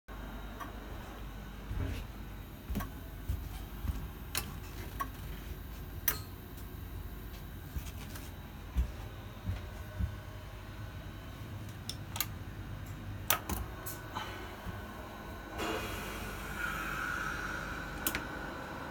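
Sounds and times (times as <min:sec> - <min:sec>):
low equipment hum: 0:00.1 - 0:18.9.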